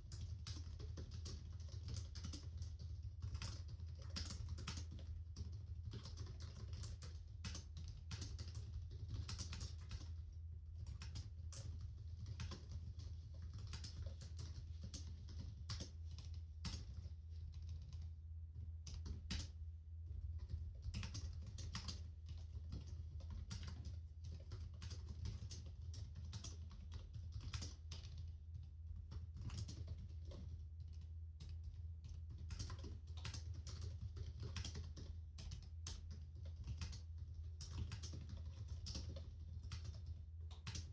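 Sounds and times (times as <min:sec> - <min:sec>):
keyboard typing: 0:00.0 - 0:10.2, 0:10.8 - 0:18.1, 0:18.8 - 0:19.6, 0:20.4 - 0:40.9.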